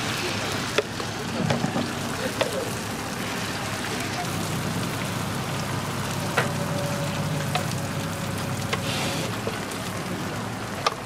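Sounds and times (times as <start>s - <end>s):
omelet sizzling on griddle: 0.0s - 11.0s.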